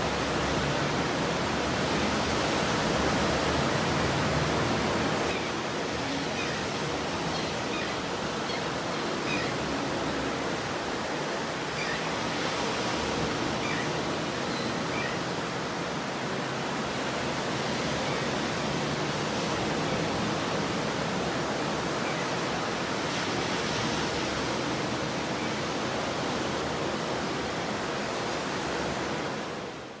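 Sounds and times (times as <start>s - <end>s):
waves breaking on a beach: 0.0s - 30.0s.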